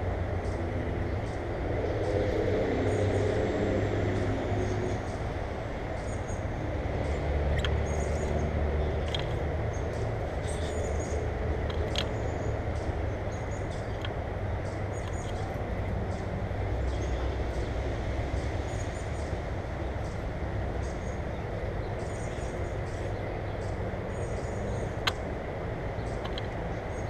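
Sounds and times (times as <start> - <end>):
small birds chirping: 0.0 - 27.0
steady low rumble: 0.0 - 27.0.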